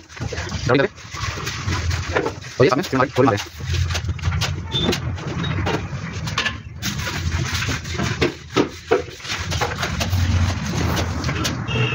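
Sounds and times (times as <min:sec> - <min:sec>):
concrete mixer engine drone: 0:00.0 - 0:11.9
knocks and scrapes on concrete: 0:00.0 - 0:11.9.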